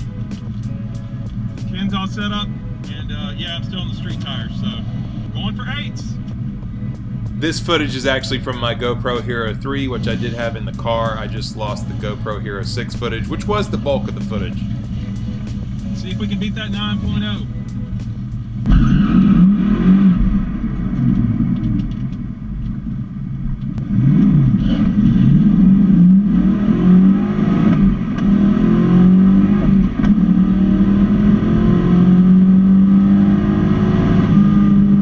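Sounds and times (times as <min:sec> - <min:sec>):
car engine revving and accelerating: 0:00.0 - 0:35.0.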